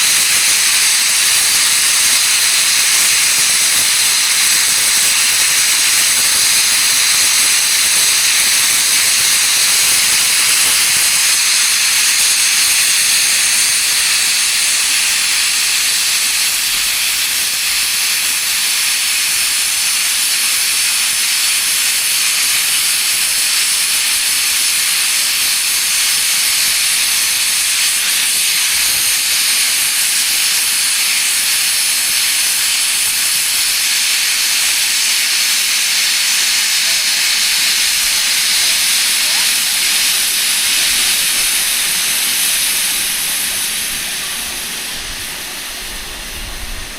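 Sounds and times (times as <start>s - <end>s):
steam locomotive hissing steam: 0.0s - 46.9s.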